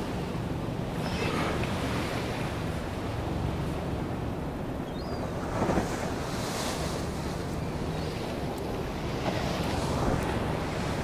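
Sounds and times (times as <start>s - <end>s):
surf: 0.0s - 11.0s.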